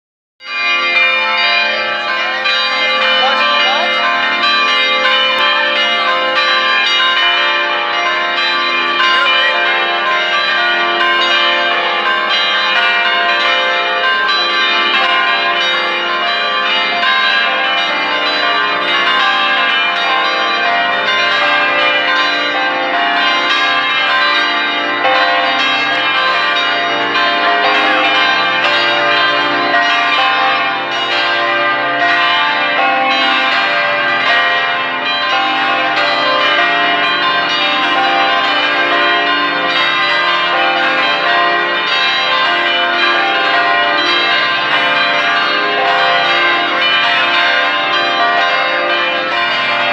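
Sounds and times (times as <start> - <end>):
church bells ringing: 0.4 - 49.9.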